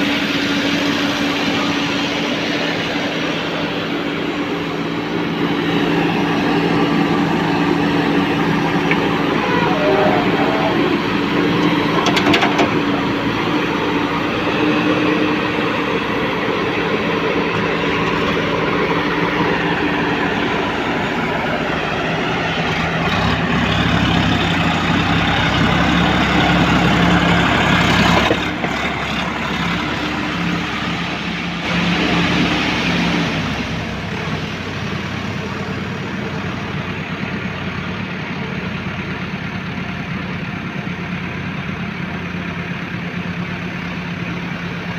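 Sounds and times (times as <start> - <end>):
backhoe diesel engine running: 0.0 - 44.9.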